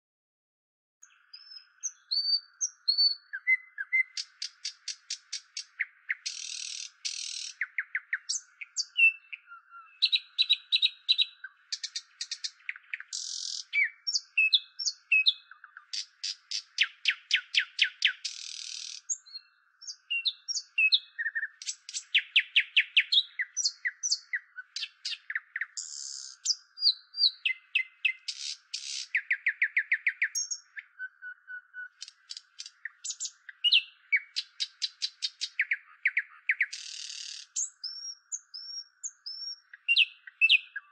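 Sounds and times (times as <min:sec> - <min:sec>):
bird singing: 0:01.0 - 0:40.9.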